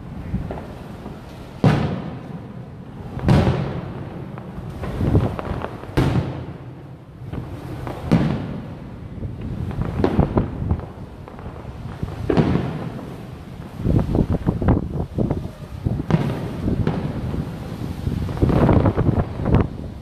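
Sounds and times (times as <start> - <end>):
firework pops: 0.0 - 6.7, 7.3 - 8.8, 9.4 - 19.8
firework booms with echo: 0.0 - 20.0.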